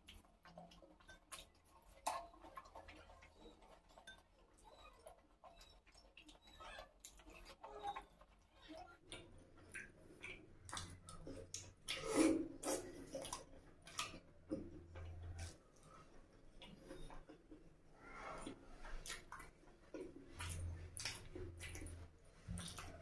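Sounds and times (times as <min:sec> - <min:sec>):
wet chewing and mouth clicks: 0:00.0 - 0:23.0.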